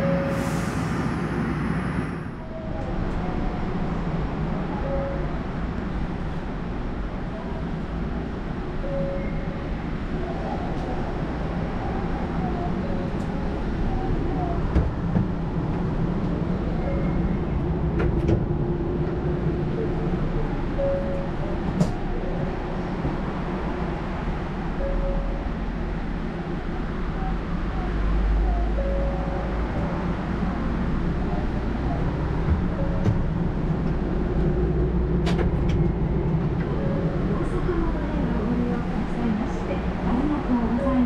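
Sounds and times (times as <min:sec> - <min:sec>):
monorail car hum: 0:00.0 - 0:41.0.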